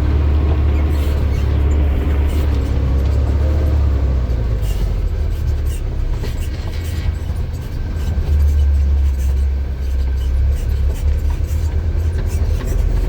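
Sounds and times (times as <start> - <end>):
heavy machinery low rumble: 0.0 - 13.0.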